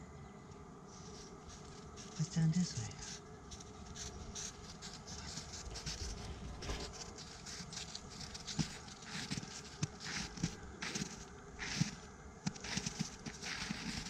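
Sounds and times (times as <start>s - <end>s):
footsteps in snow: 0.9s - 14.0s.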